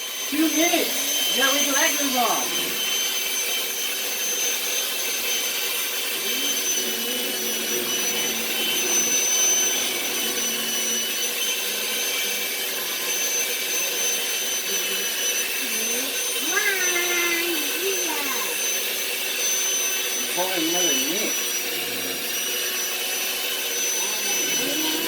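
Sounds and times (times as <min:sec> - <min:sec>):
electric hand mixer whirring: 0:00.0 - 0:25.0.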